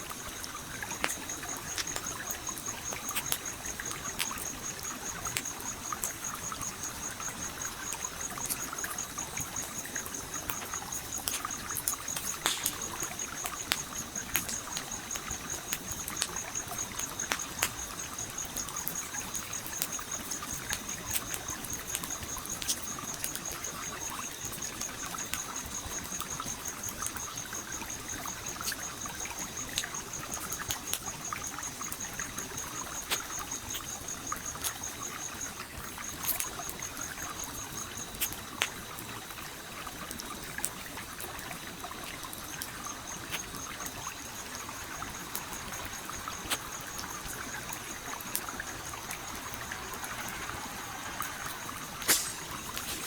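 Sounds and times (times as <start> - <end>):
campfire crackling and popping: 0.0 - 53.0
stream trickling: 0.0 - 53.0.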